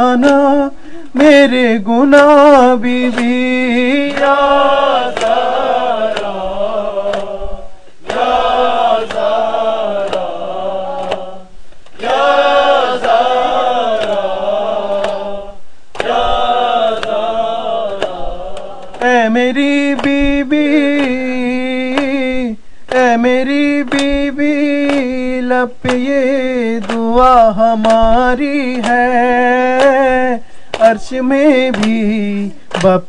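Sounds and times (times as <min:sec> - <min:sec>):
men chanting in unison: 0:00.0 - 0:33.0.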